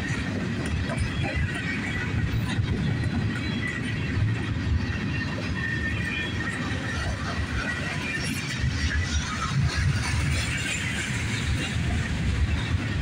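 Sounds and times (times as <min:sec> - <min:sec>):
rapid wheel clatter: 0:00.0 - 0:13.0
train wheels rumbling on rail: 0:00.0 - 0:13.0.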